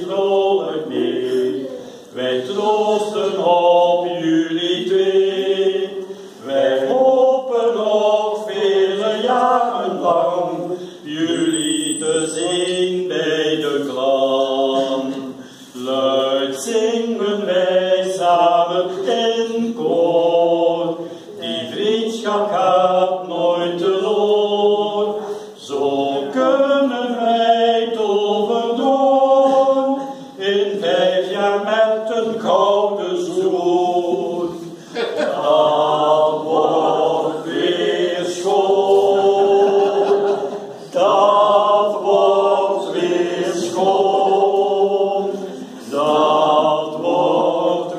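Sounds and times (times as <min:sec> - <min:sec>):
group singing in unison: 0:00.0 - 0:47.9.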